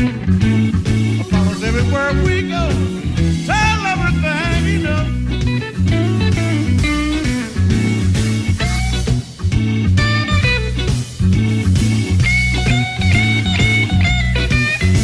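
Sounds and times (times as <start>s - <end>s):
bass line: 0.0s - 15.0s
drums: 0.0s - 15.0s
electric guitar bending notes: 0.0s - 15.0s.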